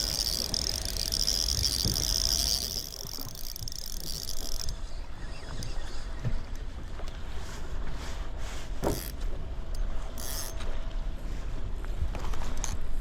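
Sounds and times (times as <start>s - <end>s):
boat engine rumbling: 0.0s - 11.2s.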